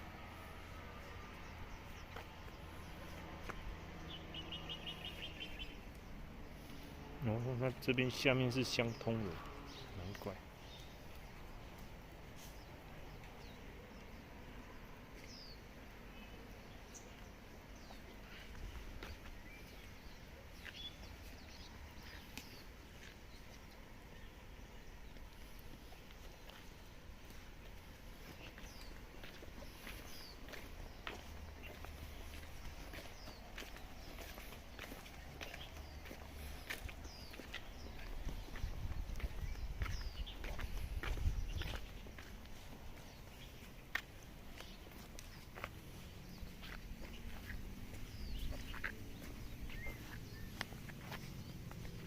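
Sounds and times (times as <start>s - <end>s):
bird chirping: 1.0s - 27.4s, 28.2s - 52.0s.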